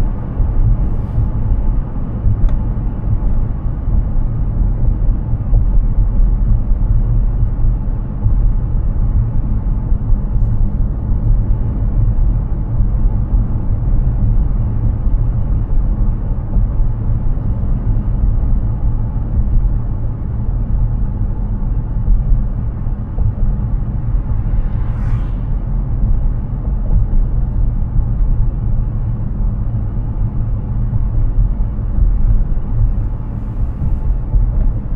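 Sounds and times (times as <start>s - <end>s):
car tyre and road noise: 0.0s - 34.9s.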